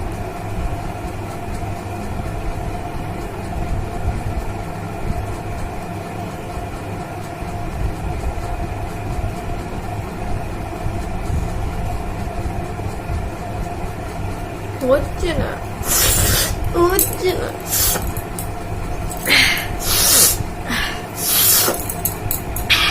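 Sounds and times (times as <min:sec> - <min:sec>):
mechanical hum with held tone: 0:00.0 - 0:22.9.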